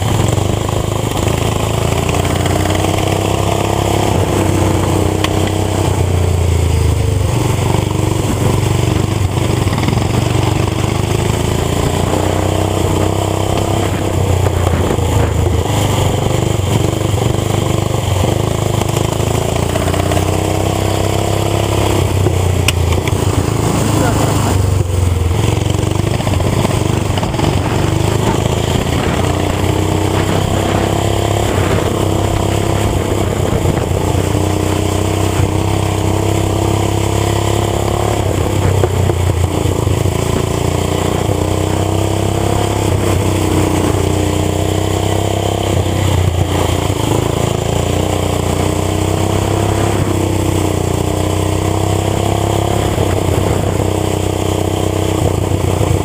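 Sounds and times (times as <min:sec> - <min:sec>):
small engine revving: 0:00.0 - 0:56.0.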